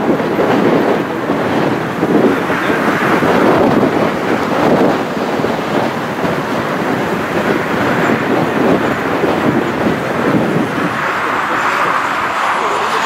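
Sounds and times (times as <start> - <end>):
distant jet engines rumbling: 0.0 - 13.0
wind on microphone: 0.0 - 13.0.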